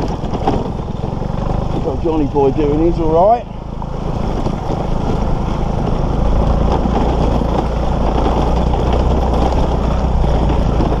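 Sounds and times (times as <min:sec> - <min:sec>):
motor scooter engine running: 0:00.0 - 0:11.0.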